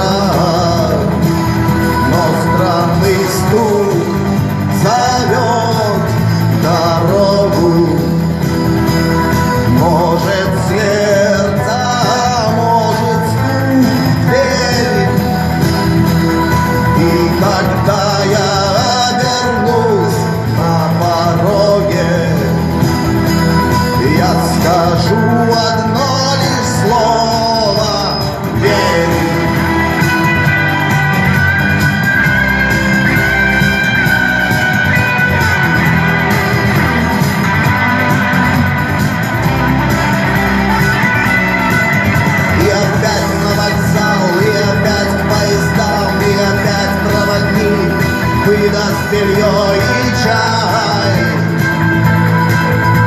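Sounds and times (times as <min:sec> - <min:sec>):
rock song with singing: 0:00.0 - 0:53.0.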